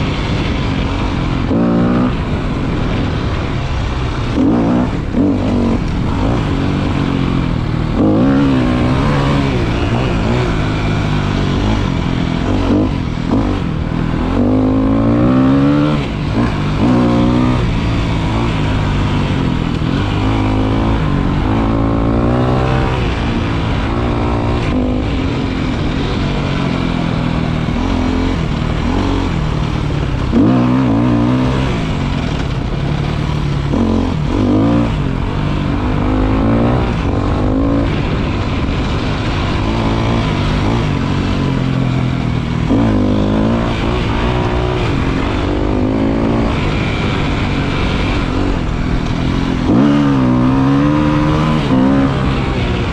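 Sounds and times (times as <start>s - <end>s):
motorcycle engine revving: 0.0s - 52.9s
road and wind noise: 0.0s - 52.9s.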